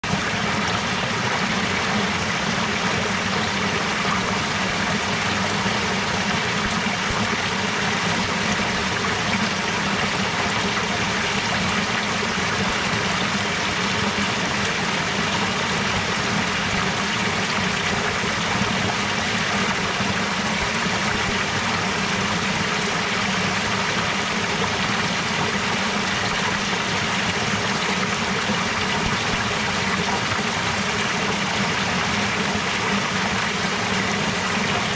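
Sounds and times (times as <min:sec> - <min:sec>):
stream water trickling: 0:00.1 - 0:34.9.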